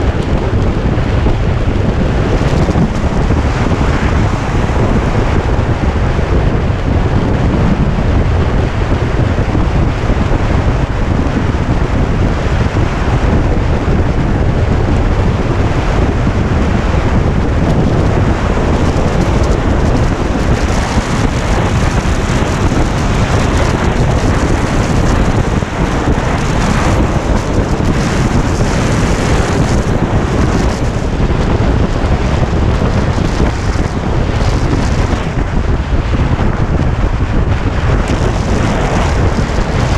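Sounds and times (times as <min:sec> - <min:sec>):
motorcycle engine: 0:00.0 - 0:39.9
road noise: 0:00.0 - 0:39.9
wind buffeting microphone: 0:00.0 - 0:39.9.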